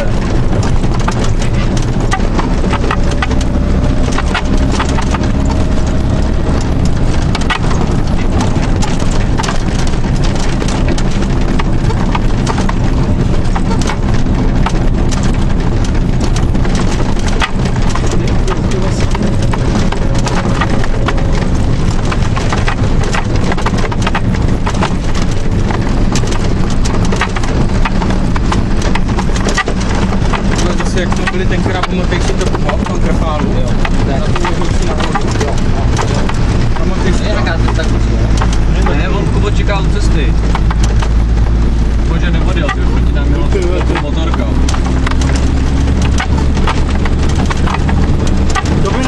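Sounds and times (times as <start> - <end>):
cab fittings rattling: 0.0 - 49.0
diesel engine running: 0.0 - 49.0.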